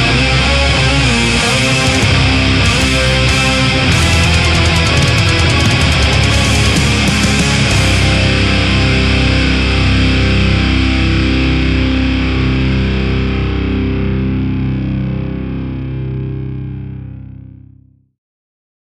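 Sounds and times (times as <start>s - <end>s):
heavy metal music: 0.0s - 16.0s
distorted electric guitar chord ringing: 0.0s - 17.1s.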